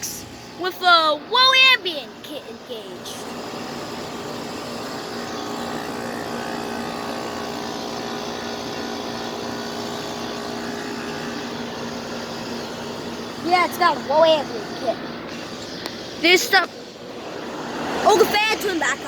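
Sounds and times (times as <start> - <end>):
air conditioner unit humming: 0.0 - 19.0.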